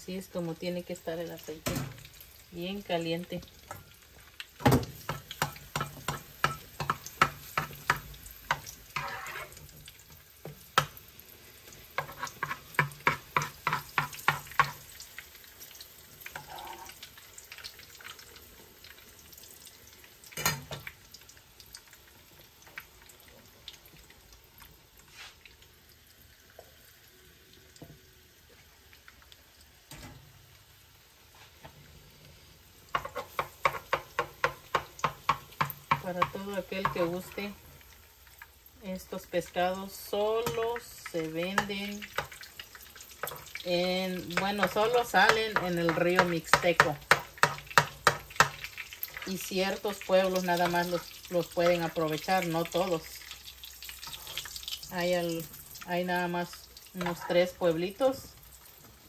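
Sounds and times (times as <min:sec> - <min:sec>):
fish sizzling in hot oil: 0:00.0 - 0:59.0.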